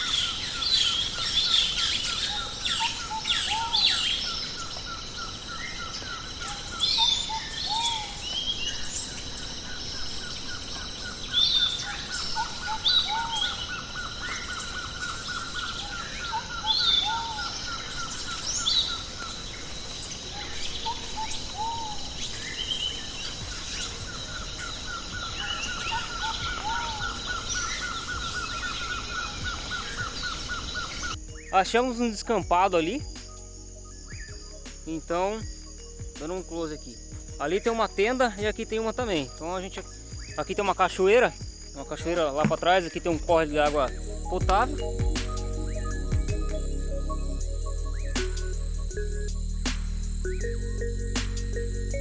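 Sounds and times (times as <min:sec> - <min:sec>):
birds calling and singing: 0:00.0 - 0:52.0
insects buzzing: 0:00.0 - 0:52.0
rapid bird trill: 0:00.0 - 0:52.0.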